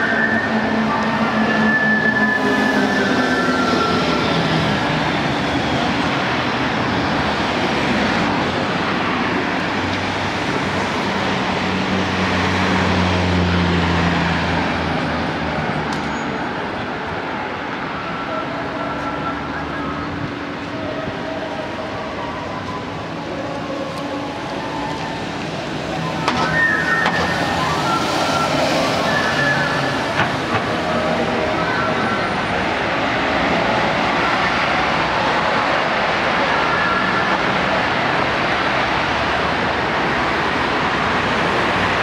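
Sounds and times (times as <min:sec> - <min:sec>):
passing cars: 0:00.0 - 0:42.0.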